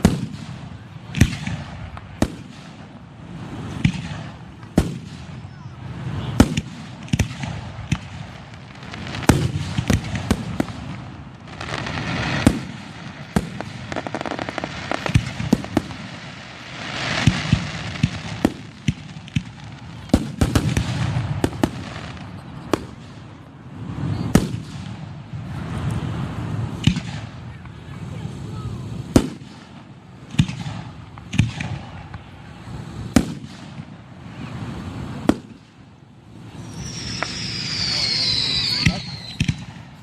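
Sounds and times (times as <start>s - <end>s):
fireworks bangs: 0.0s - 40.0s
fireworks hissing and crackling: 0.0s - 40.0s.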